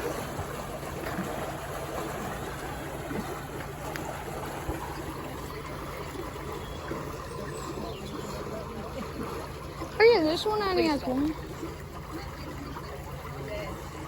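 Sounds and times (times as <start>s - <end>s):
boat engine humming: 0.0s - 14.0s
water rushing: 0.0s - 14.0s.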